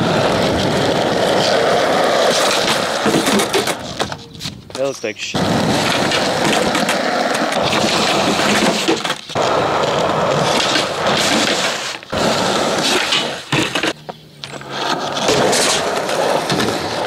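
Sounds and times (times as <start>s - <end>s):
skateboard clacking: 0.0s - 17.0s
skateboard wheels rolling on concrete: 0.0s - 17.0s.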